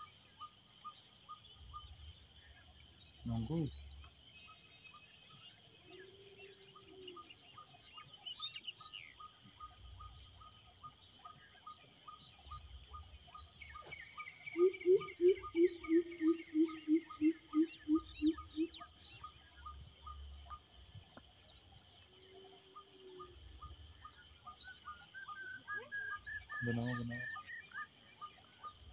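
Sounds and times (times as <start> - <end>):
birds calling: 0.0 - 28.9
crickets and insects buzzing: 0.0 - 28.9.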